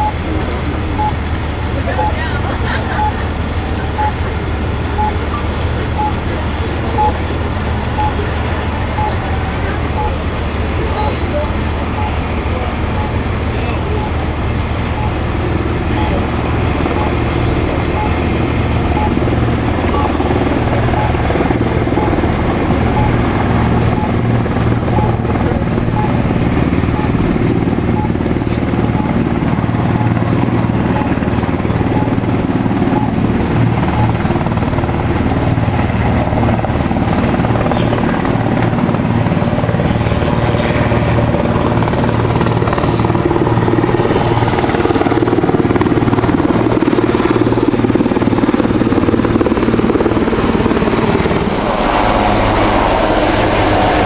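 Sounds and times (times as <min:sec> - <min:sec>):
helicopter rotor beat: 0:00.0 - 0:54.0
low engine drone: 0:00.0 - 0:54.0.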